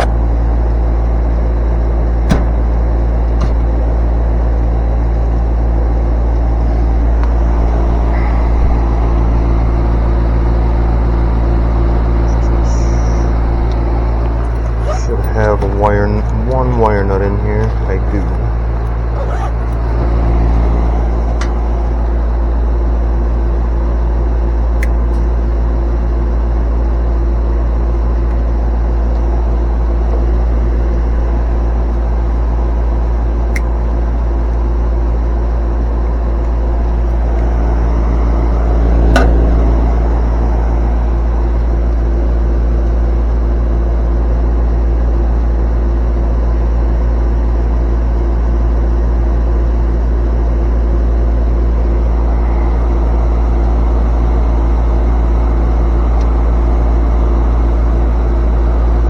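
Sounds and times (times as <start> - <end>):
air conditioner compressor humming: 0.0 - 59.0.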